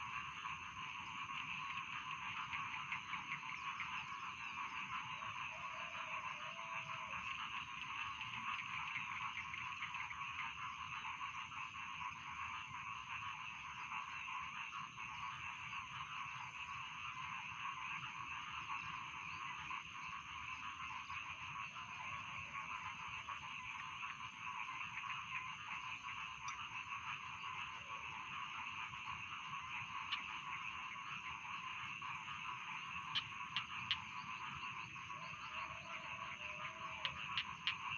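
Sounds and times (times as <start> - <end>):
chorus of frogs croaking: 0.0 - 37.9.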